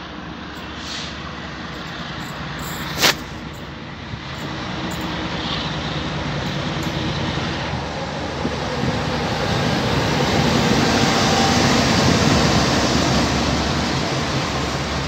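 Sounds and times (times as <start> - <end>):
diesel locomotive passing: 0.0 - 15.0
rumble of rolling freight wagons: 0.0 - 15.0.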